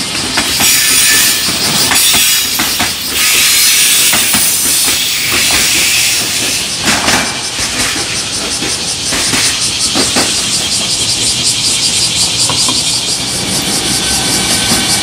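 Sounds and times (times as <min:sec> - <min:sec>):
wheels clacking over rail joints: 0:00.0 - 0:15.0
wheels rushing on rail: 0:00.0 - 0:15.0.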